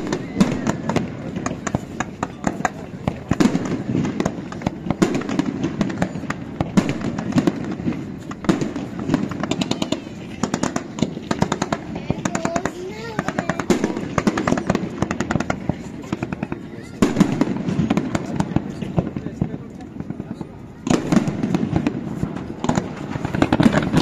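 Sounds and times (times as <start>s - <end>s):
crowd chatter: 0.0s - 24.0s
fireworks bangs and pops: 0.0s - 24.0s
fireworks crackling: 0.0s - 24.0s.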